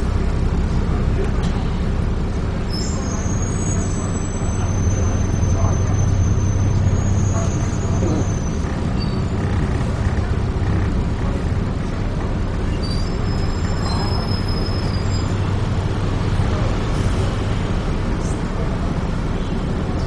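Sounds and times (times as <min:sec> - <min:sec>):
bus engine drone: 0:00.0 - 0:20.0
road and body noise: 0:00.0 - 0:20.0.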